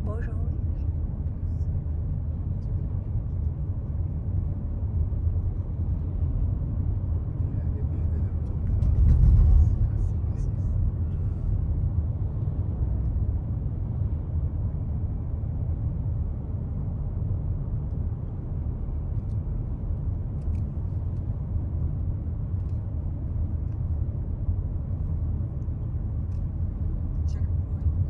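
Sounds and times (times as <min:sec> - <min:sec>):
car engine and tyre noise: 0:00.1 - 0:28.0.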